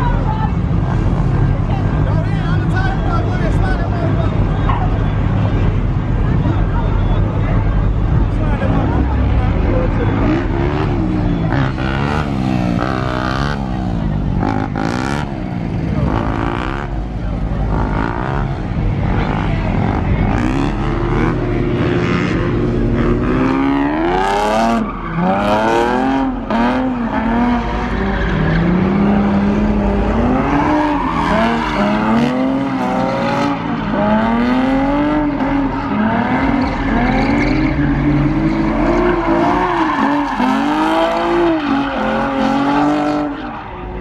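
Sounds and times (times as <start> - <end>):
car engine revving: 0.0 - 44.0
tyres squealing on asphalt: 0.0 - 44.0.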